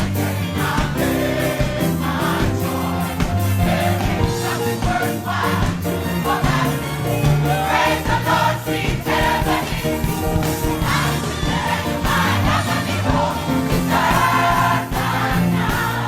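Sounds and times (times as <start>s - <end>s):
band playing a rhythmic beat: 0.0s - 16.0s
gospel choir singing: 0.0s - 16.0s.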